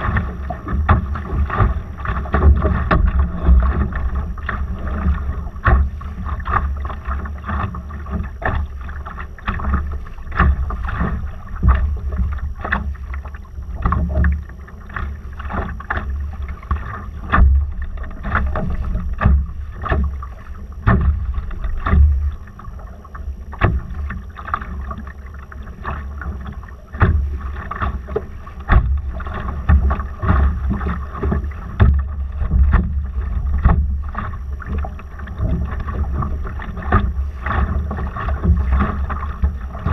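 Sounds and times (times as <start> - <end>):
water slapping against hull: 0.0 - 39.9.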